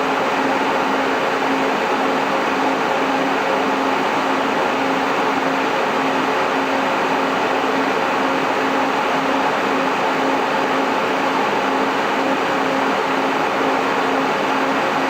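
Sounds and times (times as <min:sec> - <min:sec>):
cooling fans whirring: 0:00.0 - 0:15.0.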